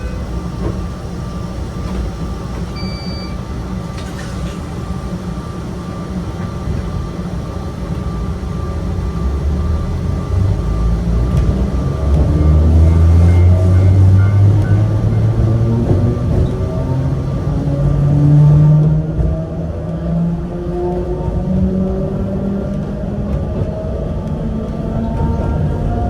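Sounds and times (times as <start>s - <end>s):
electric train motors growling: 0.0s - 26.0s.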